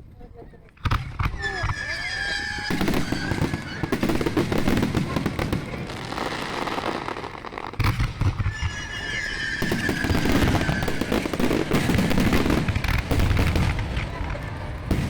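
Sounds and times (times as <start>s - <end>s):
fireworks bursting and crackling: 0.7s - 15.0s.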